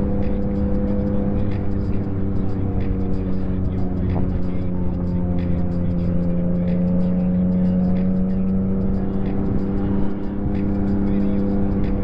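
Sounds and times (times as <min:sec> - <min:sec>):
motorcycle engine at steady revs: 0:00.0 - 0:12.0.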